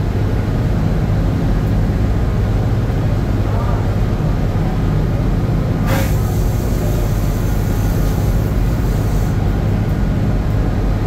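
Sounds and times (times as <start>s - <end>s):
low drone of ship engines: 0.0s - 11.0s.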